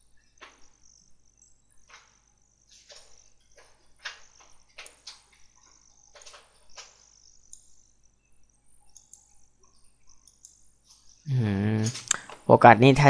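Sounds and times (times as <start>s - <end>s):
faint chirps or clicks: 0.1s - 12.4s.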